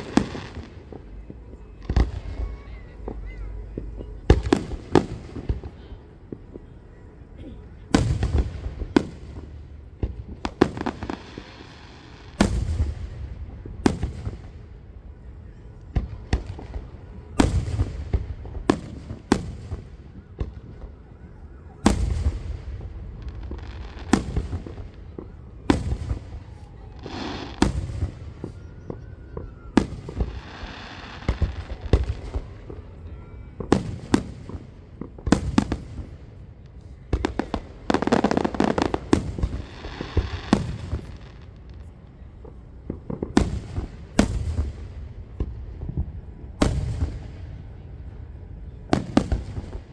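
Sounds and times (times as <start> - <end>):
fireworks bursting with bangs: 0.0 - 49.9.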